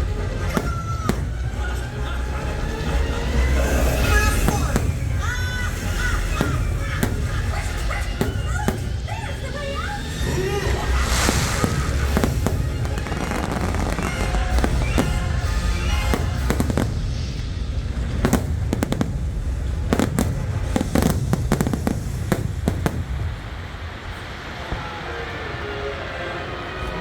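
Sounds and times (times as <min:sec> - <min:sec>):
music: 0:00.0 - 0:23.3, 0:24.2 - 0:27.0
low rumble: 0:00.0 - 0:24.7
fireworks bangs: 0:00.0 - 0:25.4.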